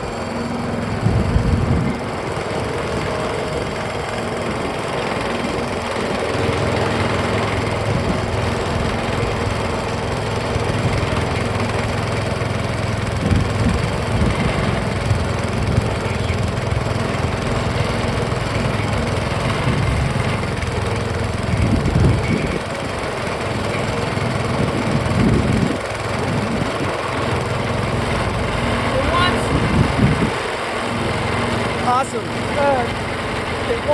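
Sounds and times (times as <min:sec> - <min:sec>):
small gasoline engine running: 0:00.0 - 0:33.9.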